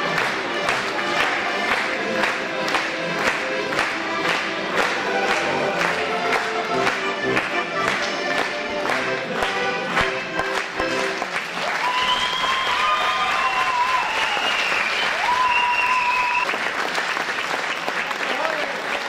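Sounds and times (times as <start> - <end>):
folk dance music: 0.0 - 16.7
crowd applause: 0.0 - 19.0.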